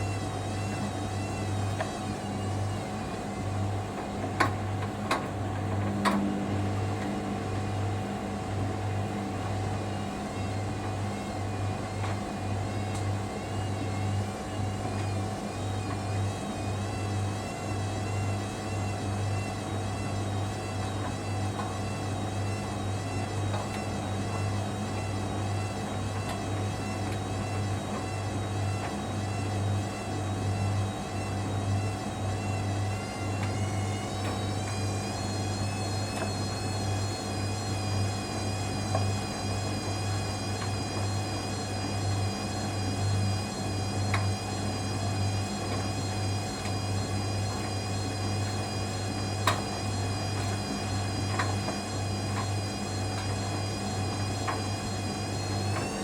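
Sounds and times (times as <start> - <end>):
washing machine motor whine: 0.0 - 56.0.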